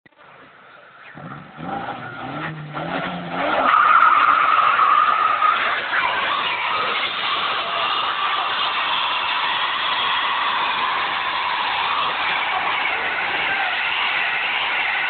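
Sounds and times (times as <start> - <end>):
car engine revving: 1.0 - 15.0
tyres squealing: 1.0 - 15.0.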